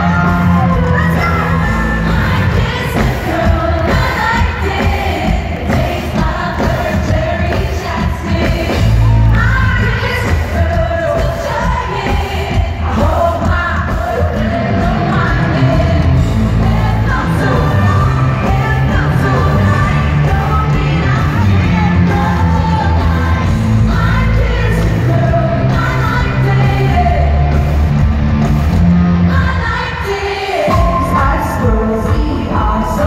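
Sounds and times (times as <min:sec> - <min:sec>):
woman singing: 0:00.0 - 0:27.4, 0:29.3 - 0:33.0
amplified band with heavy bass: 0:00.0 - 0:33.0.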